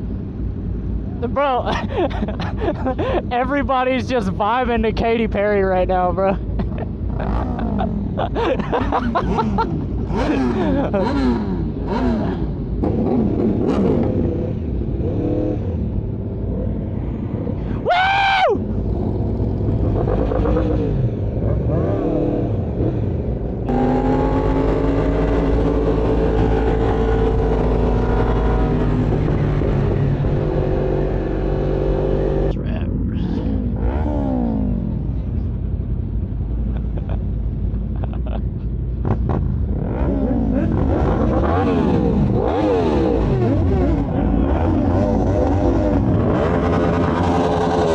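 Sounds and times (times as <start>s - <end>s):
motorcycle engines and wind rumble: 0.0s - 47.9s.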